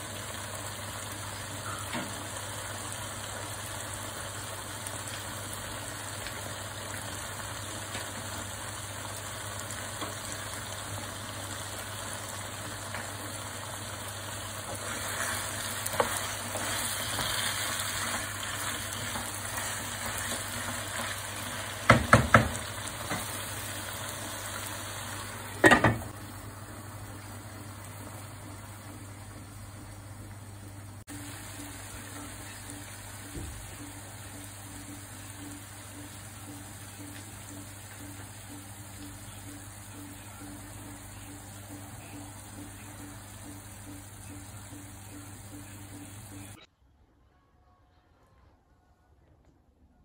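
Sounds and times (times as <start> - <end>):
food sizzling in a wok: 0.0 - 46.6.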